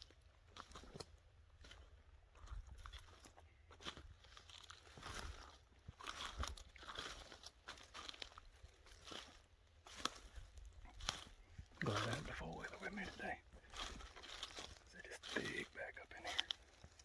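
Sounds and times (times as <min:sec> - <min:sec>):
footsteps crunching through brush: 0:00.0 - 0:17.0.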